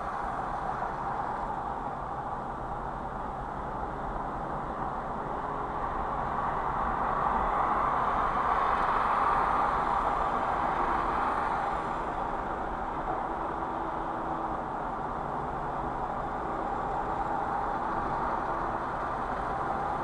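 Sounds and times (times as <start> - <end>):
road and tyre noise: 0.0 - 20.0.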